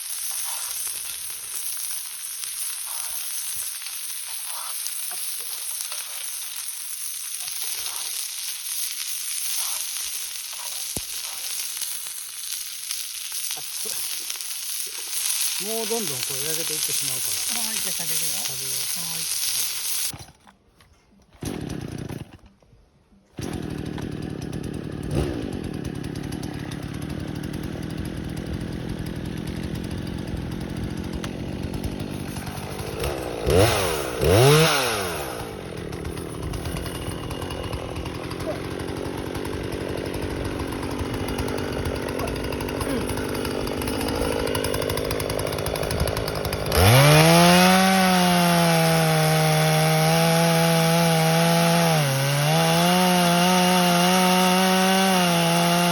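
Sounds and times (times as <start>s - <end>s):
chainsaw engine running: 0.0s - 20.4s, 21.3s - 22.5s, 23.4s - 55.9s.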